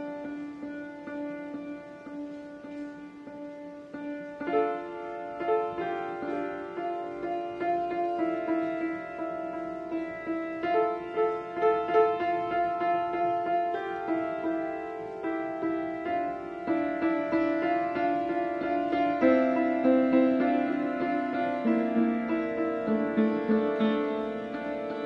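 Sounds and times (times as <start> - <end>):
upright piano playing: 0.0 - 25.0.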